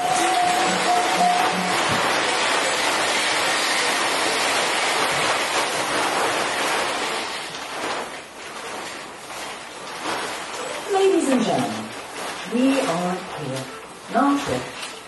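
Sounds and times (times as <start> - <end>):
steady hissing rush: 0.0 - 14.7.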